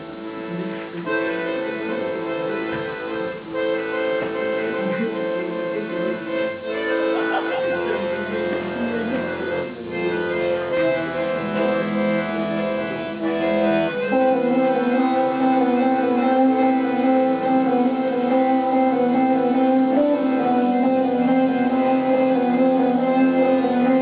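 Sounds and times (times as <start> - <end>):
bowed fiddle: 0.0 - 24.0
plucked strings: 0.0 - 24.0.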